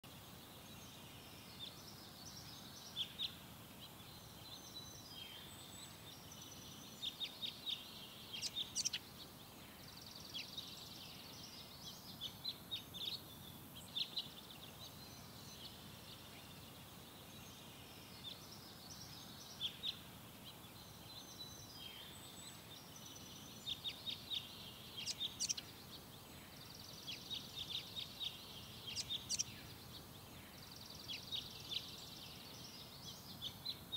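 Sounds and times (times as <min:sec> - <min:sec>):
faint steady hiss: 0:00.0 - 0:33.9
songbirds chirping and trilling: 0:00.0 - 0:33.9.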